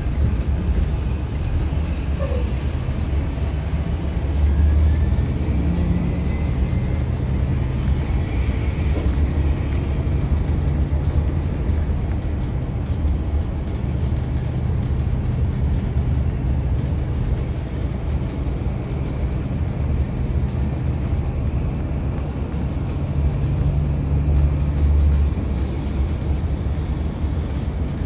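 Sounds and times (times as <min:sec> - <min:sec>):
aircraft low rumble: 0:00.0 - 0:28.0.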